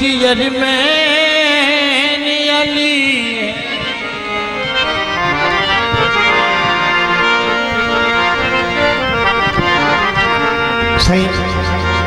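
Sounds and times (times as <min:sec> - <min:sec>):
harmonium melody: 0:00.0 - 0:12.0.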